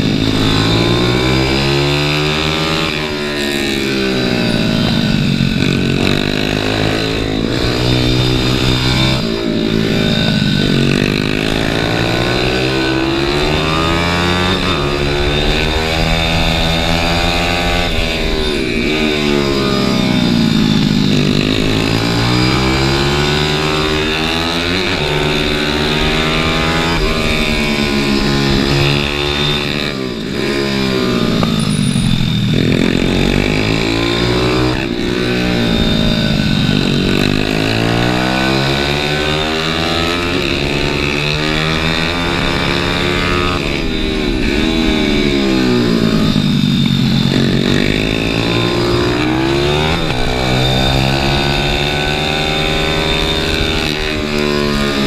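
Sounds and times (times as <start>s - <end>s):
small motorcycle engine revving: 0.0s - 55.0s.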